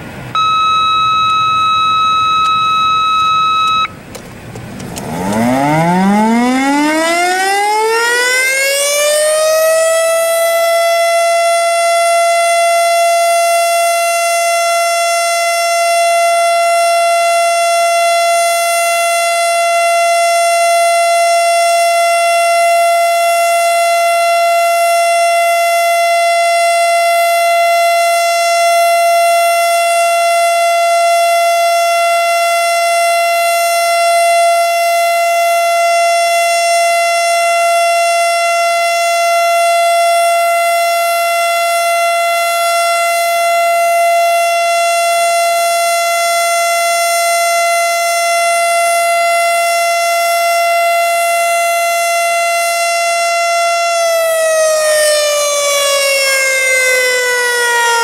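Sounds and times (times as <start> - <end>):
warning siren high steady tone: 0.0 - 4.0, 4.8 - 58.0.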